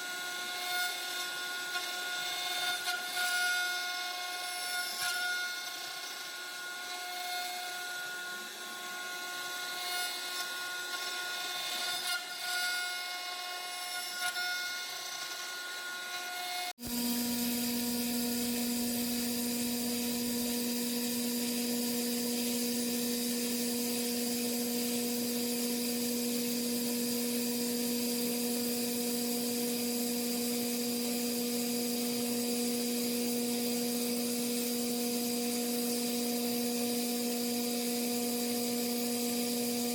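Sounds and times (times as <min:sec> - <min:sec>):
cnc machine cutting wood: 0:00.0 - 0:39.9.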